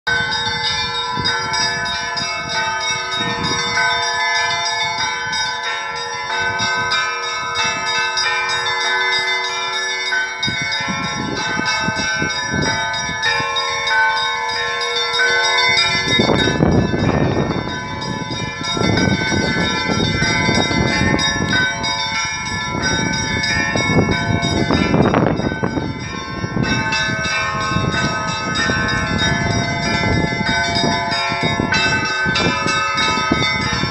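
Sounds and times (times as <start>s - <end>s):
heavy low bell strokes: 0.1s - 33.9s
small church bells ringing: 0.1s - 33.9s.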